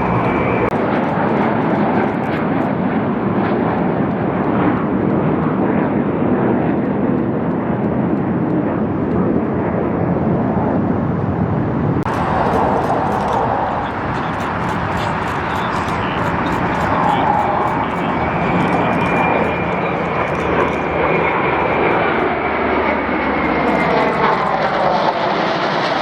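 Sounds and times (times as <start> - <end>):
airplane engine rush: 0.0 - 26.0.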